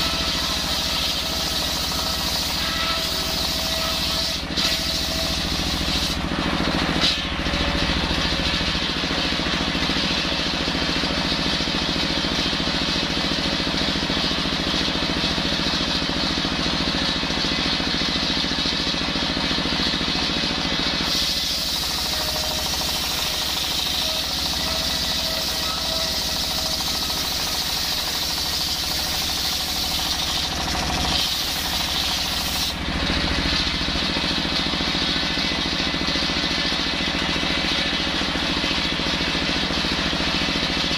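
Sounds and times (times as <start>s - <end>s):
circular saw cutting wood: 0.0s - 11.8s, 19.7s - 40.9s
diesel engine running: 0.0s - 40.9s.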